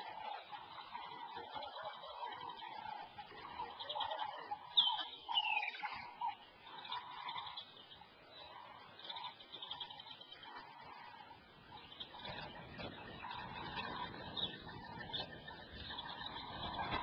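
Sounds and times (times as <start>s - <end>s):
faint background bird calling: 0.0s - 17.0s.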